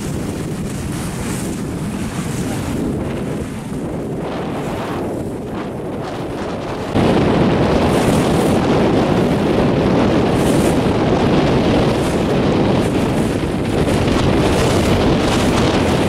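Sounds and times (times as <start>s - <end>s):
choppy water rushing: 0.0s - 16.0s
wind buffeting microphone: 0.0s - 16.0s.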